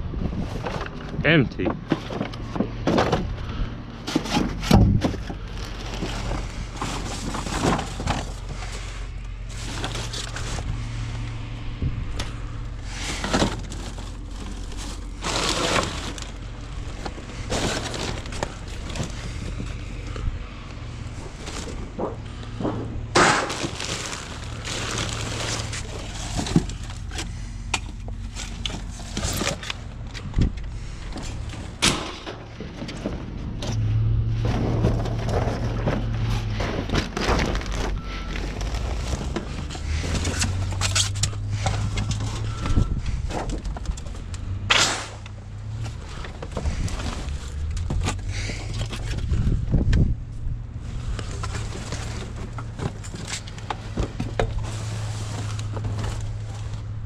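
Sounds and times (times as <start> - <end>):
steady low hum: 0.0 - 57.0
trash rummaging in metal dumpster: 0.0 - 57.0
cardboard crumpling and clattering: 1.7 - 11.2, 12.8 - 20.2, 20.9 - 44.3, 45.7 - 50.1, 50.8 - 57.0.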